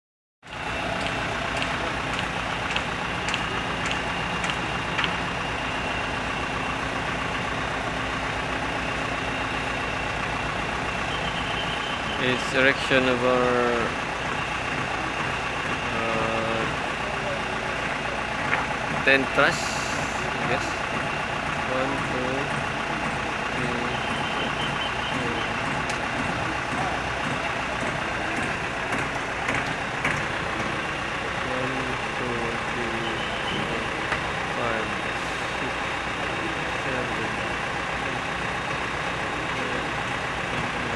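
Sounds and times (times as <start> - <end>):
crane diesel engines running: 0.4 - 40.9.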